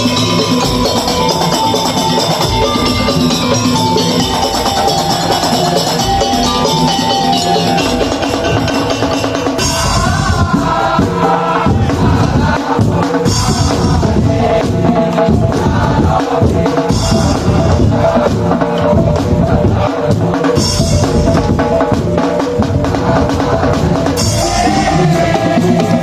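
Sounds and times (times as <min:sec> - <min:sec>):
drums and percussion beat: 0:00.0 - 0:26.0.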